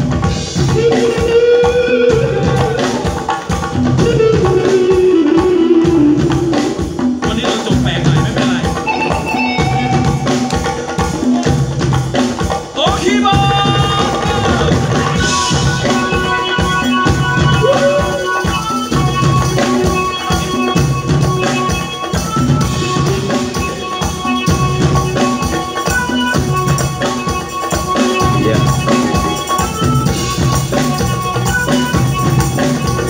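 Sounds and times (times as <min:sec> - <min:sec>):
drums: 0:00.0 - 0:33.0
electric guitars: 0:00.0 - 0:33.0
live band playing: 0:00.0 - 0:33.0.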